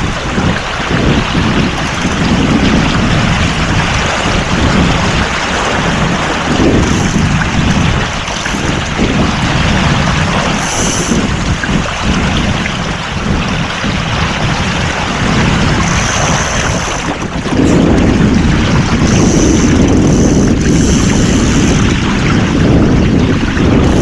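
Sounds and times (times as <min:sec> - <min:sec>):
water washing along a boat: 0:00.0 - 0:24.0
wind buffeting microphone: 0:00.0 - 0:24.0.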